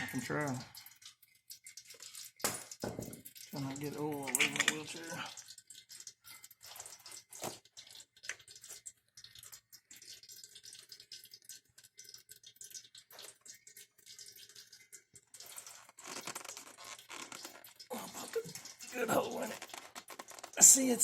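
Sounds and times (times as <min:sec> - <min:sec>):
oil dripping and trickling: 0:00.0 - 0:21.0.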